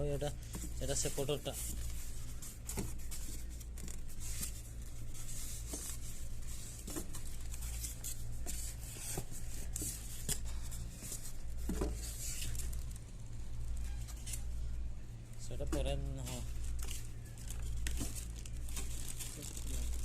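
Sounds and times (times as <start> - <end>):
steady low hum: 0.0 - 20.0
packing material rustling and tearing: 0.2 - 14.8, 16.2 - 20.0.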